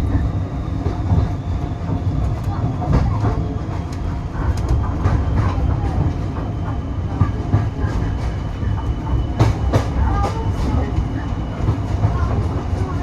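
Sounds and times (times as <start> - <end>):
railway carriage rumble: 0.0 - 13.0.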